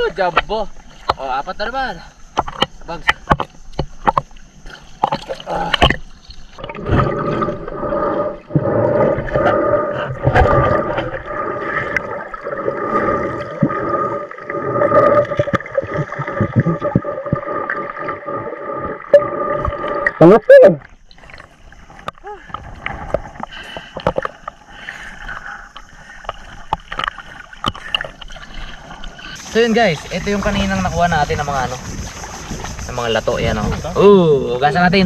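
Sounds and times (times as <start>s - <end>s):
water splashing: 0.0s - 35.0s
muffled underwater hum: 2.2s - 34.0s.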